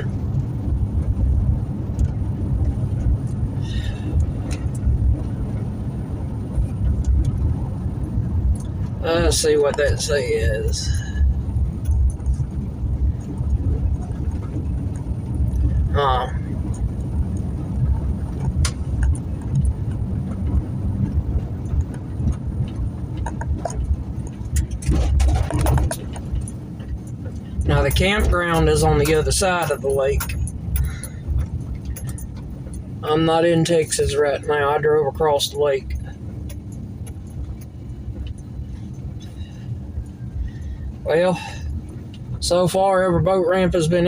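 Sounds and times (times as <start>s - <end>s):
light clicks and rattles: 0.0s - 44.0s
truck cabin road and engine rumble: 0.0s - 44.0s.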